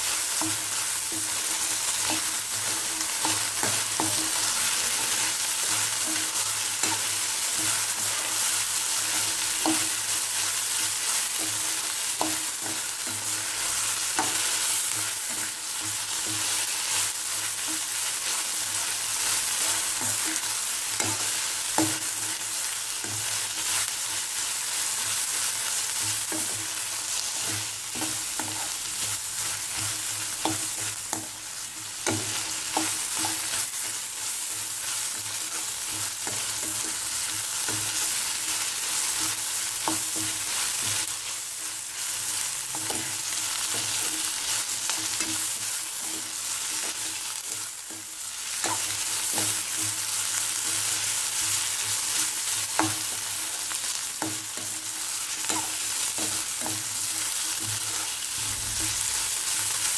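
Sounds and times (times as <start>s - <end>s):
vegetables sizzling in oil: 0.0s - 59.9s.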